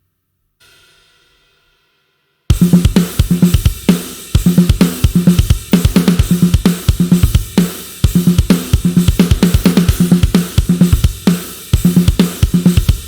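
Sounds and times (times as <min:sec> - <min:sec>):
cymbals: 0:00.6 - 0:13.0
rapid kick drum strokes: 0:02.5 - 0:13.0
rock drum kit heavy groove: 0:02.5 - 0:13.0.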